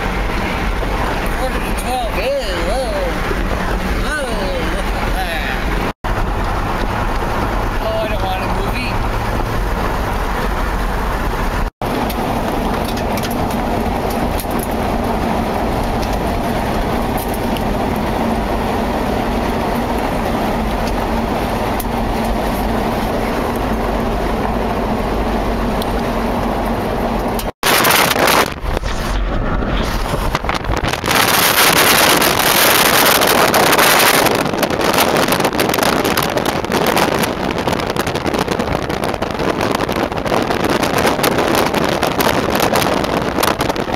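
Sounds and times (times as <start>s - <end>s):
car road and engine noise: 0.0s - 43.9s
wind rushing over microphone: 0.0s - 43.9s.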